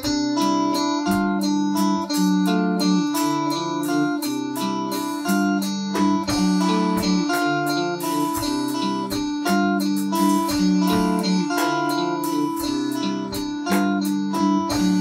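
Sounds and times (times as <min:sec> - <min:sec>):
keyboard or guitar chords: 0:00.0 - 0:15.0
sharp percussion hits: 0:00.0 - 0:15.0.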